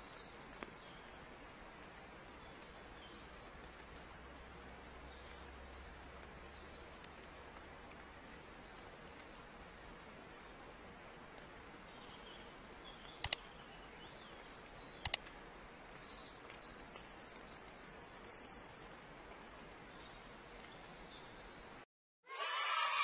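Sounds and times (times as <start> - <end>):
steady low hiss: 0.0 - 21.8.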